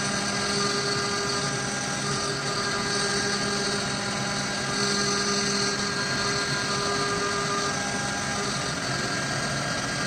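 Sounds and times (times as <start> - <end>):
bit cutting through wood: 0.0 - 10.0
router spindle whine and hum: 0.0 - 10.0.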